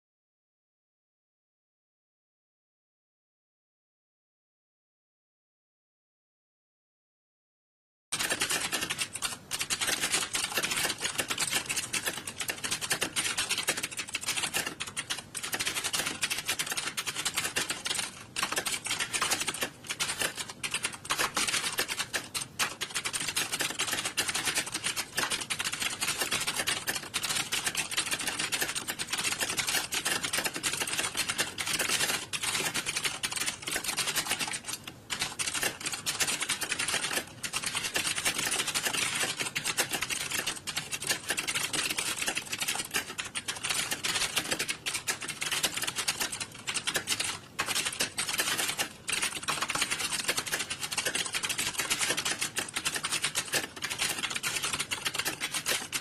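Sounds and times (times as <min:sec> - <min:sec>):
many keyboards typing: 0:08.1 - 0:56.0.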